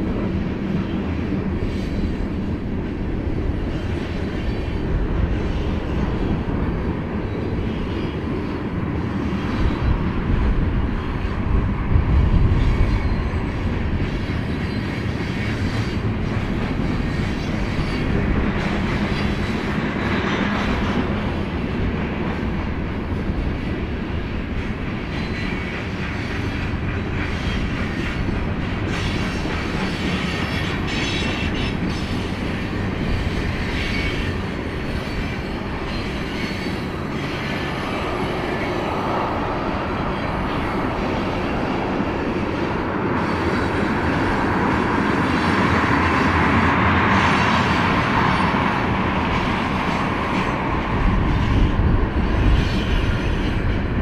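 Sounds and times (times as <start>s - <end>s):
clickety-clack of rail joints: 0.0s - 54.0s
freight train wheels rumbling: 0.0s - 54.0s.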